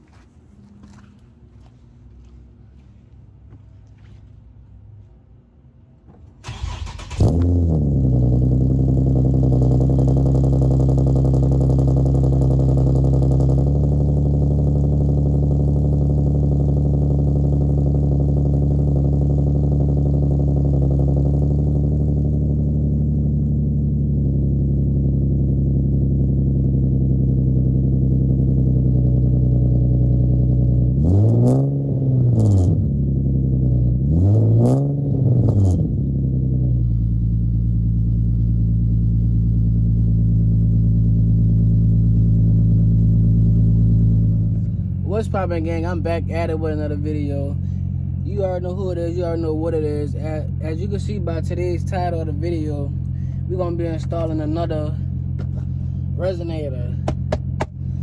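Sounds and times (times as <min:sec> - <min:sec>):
car engine starting and idling: 0:06.0 - 0:58.0
car engine revving: 0:06.4 - 0:58.0.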